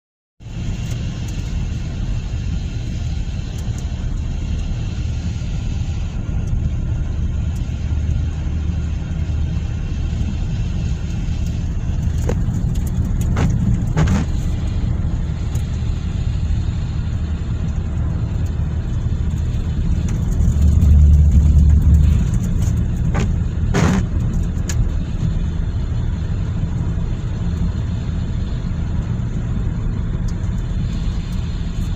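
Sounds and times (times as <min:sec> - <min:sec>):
car engine and road noise: 0:00.4 - 0:31.9.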